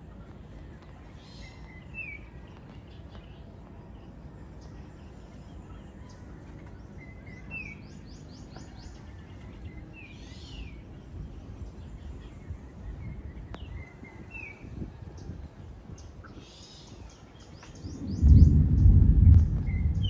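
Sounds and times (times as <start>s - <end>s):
birds chirping: 0.0s - 20.0s
low outdoor rumble: 0.0s - 20.0s.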